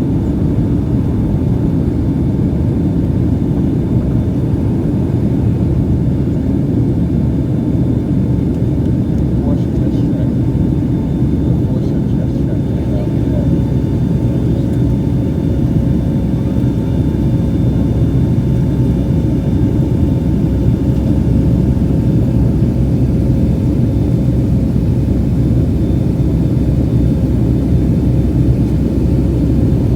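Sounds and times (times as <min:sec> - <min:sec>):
jet engines rumbling: 0:00.0 - 0:29.9.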